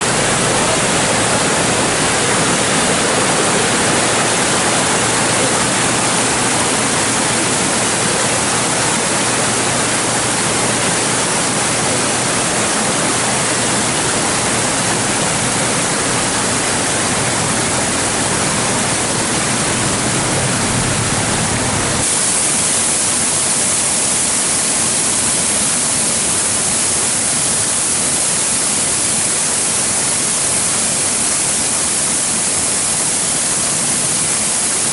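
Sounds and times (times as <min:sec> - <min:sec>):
stream and waterfall roaring: 0:00.0 - 0:34.9.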